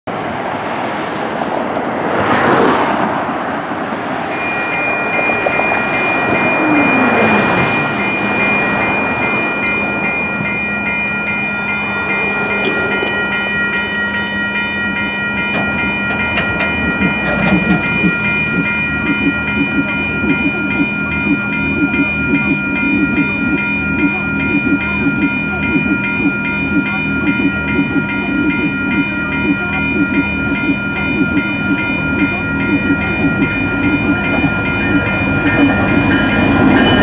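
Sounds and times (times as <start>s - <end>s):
cars passing: 0.1s - 37.0s
crossing warning bells dinging: 0.1s - 37.0s
train clatter: 0.5s - 37.0s.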